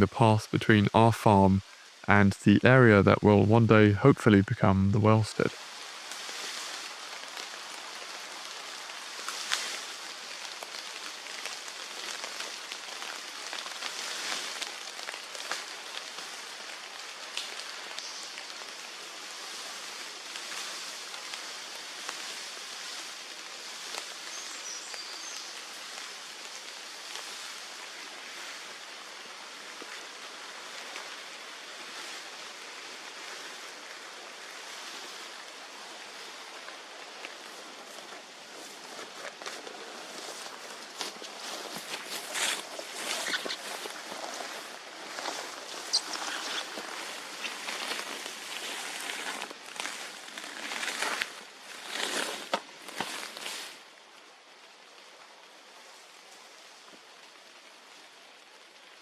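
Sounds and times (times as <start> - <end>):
steady hiss of wind or rain: 0.0 - 59.0.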